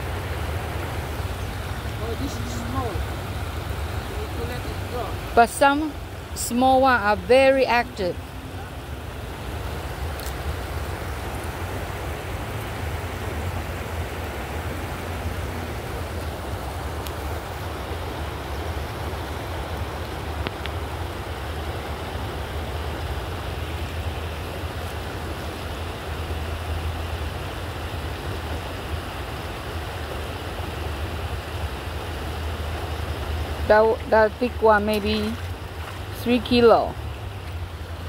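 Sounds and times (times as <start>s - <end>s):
stream rushing: 0.0s - 38.0s.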